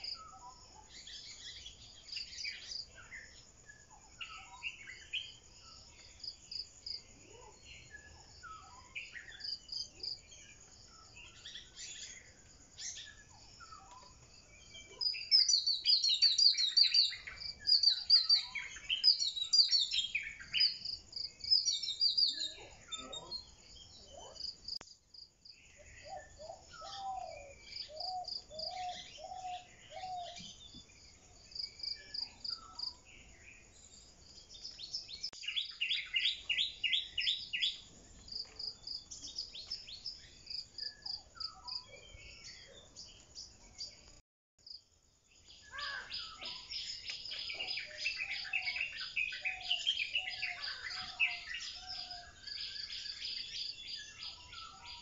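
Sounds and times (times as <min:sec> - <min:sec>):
birds singing and chirping: 0:00.0 - 0:44.2, 0:45.3 - 0:55.0.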